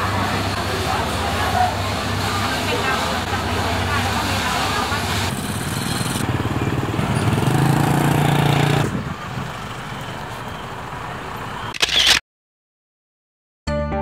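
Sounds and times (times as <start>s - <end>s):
outdoor background: 0.0s - 12.2s.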